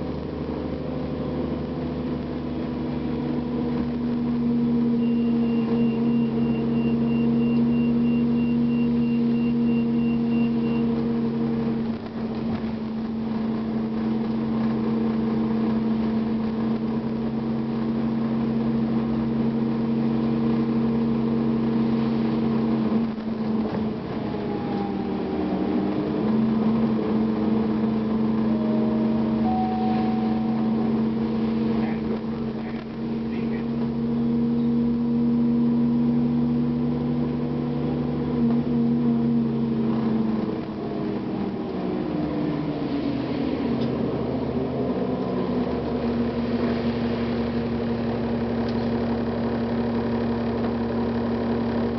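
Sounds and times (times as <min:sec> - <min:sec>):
diesel bus engine running: 0:00.0 - 0:51.9.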